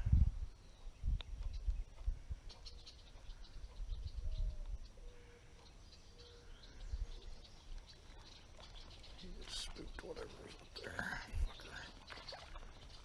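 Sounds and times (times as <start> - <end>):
birds chirping: 0.4 - 13.0.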